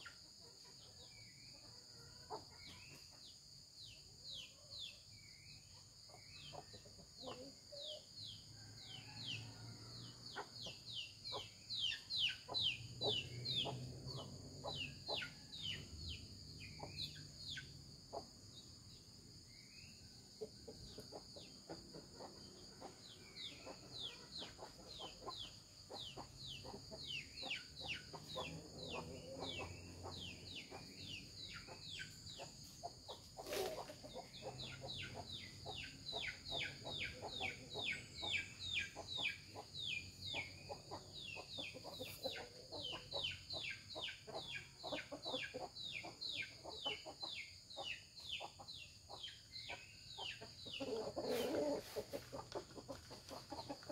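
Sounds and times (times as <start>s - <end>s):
chickens clucking softly: 0.0s - 53.9s.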